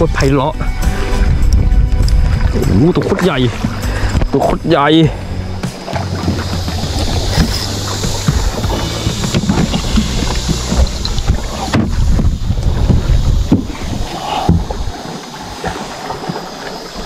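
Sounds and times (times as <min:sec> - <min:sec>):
low rumble: 0:00.0 - 0:14.9
water slapping against boat: 0:00.0 - 0:17.0
wind buffeting microphone: 0:00.0 - 0:17.0.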